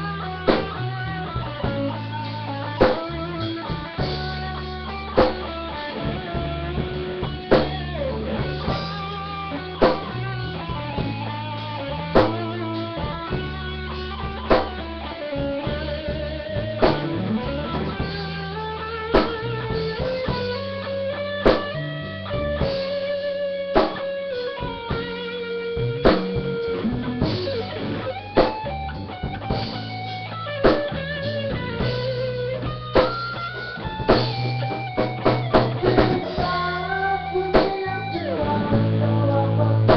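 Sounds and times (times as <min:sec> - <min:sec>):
bass and drums: 0:00.0 - 0:39.9
electric guitar lead melody: 0:00.0 - 0:39.9.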